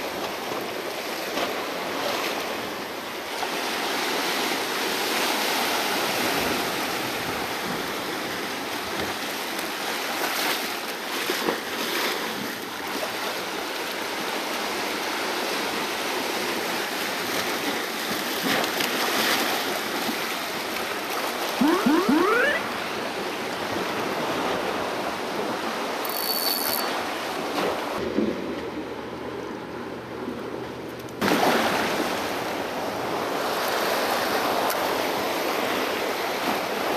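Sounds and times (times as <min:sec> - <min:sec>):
sea waves surging over rock: 0:00.0 - 0:26.0, 0:31.2 - 0:36.9.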